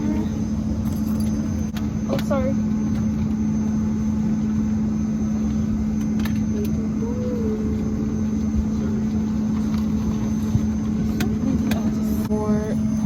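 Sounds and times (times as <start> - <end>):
airliner engines droning in cabin: 0.0 - 13.0.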